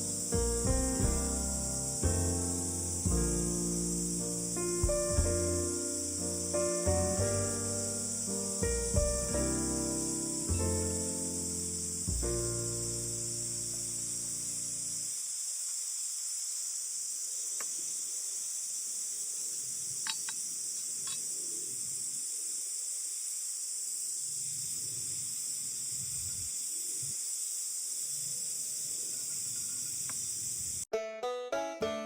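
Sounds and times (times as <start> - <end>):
insects chirping: 0.0 - 30.9.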